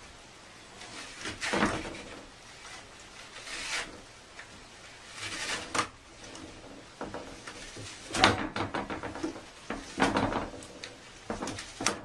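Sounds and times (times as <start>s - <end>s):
scraping and rubbing: 0.5s - 12.0s.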